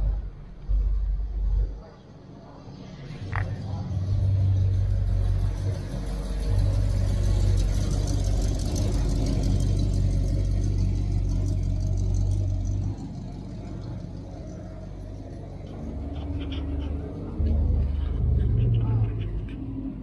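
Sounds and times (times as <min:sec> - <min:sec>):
car engine idling: 0:03.1 - 0:20.0.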